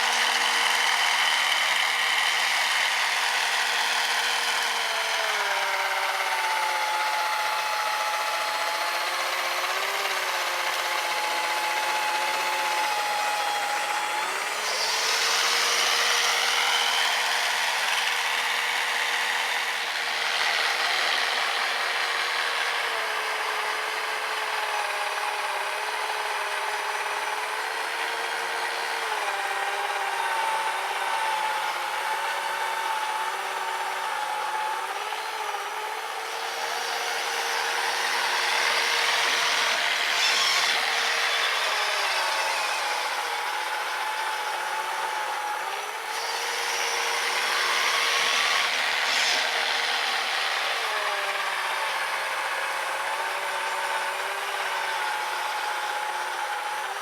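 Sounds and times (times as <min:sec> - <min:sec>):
electric motor whining through snow: 0:00.0 - 0:57.0.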